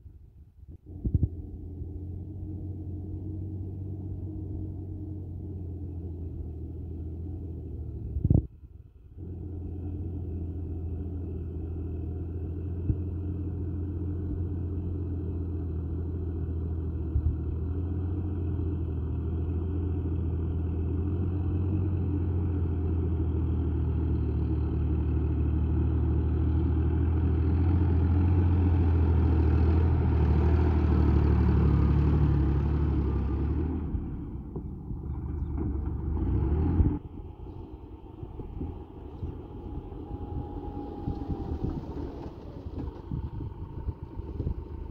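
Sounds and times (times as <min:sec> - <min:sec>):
diesel tractor engine running: 0:00.9 - 0:08.2, 0:09.1 - 0:44.9.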